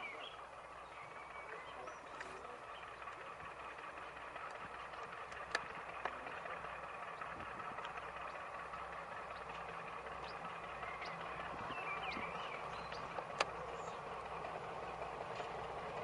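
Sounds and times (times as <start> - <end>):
diesel locomotive running: 0.0 - 16.0.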